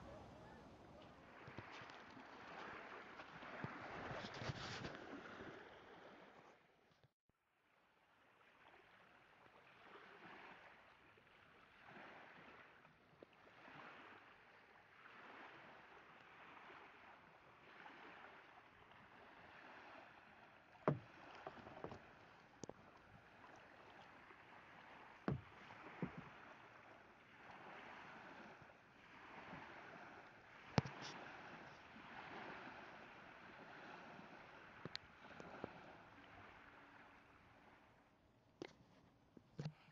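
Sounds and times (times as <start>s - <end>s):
water sloshing: 0.0s - 6.7s, 8.4s - 38.0s.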